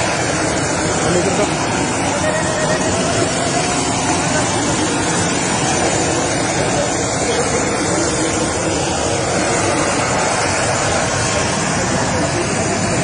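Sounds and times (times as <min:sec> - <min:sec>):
jet engine rushing hiss: 0:00.0 - 0:13.0.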